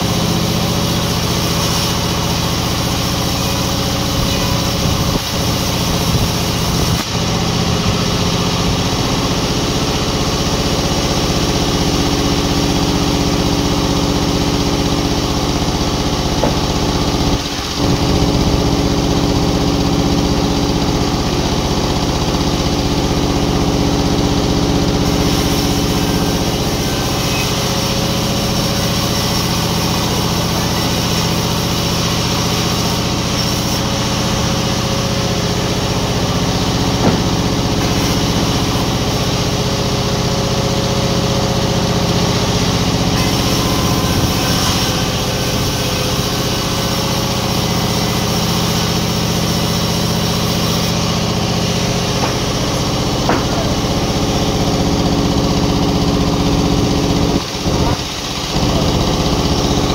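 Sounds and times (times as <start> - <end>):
sawmill motor drone: 0.0 - 59.9.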